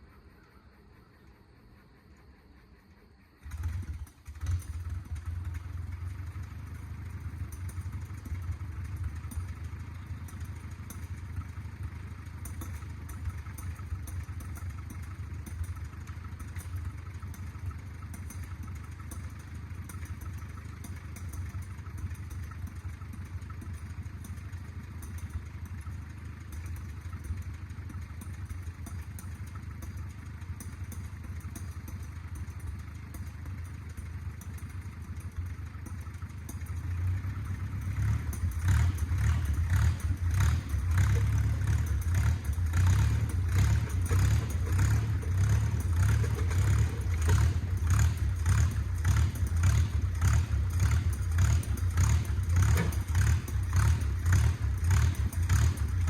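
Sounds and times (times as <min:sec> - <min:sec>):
bulldozer engine running: 0:00.0 - 0:56.0
light clatter: 0:03.4 - 0:56.0.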